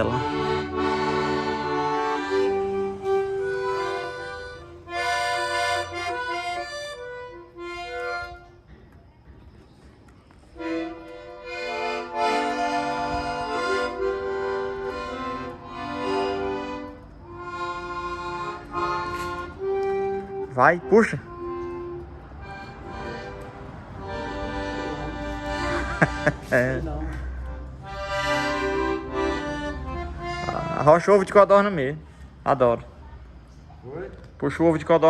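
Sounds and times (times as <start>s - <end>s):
accordion playing: 0.0s - 8.8s, 10.6s - 32.1s.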